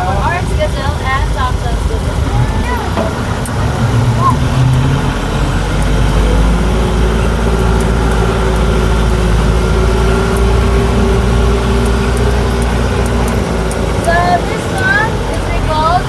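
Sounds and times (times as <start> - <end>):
tram engine droning: 0.0 - 16.0.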